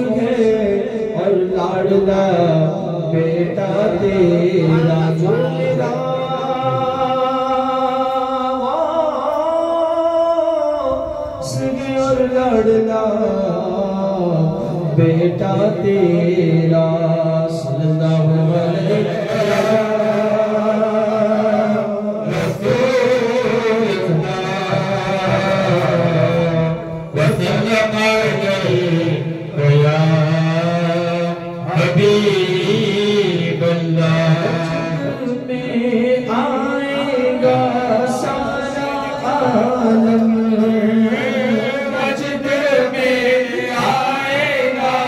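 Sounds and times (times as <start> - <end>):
man singing unaccompanied: 0.0 - 45.0.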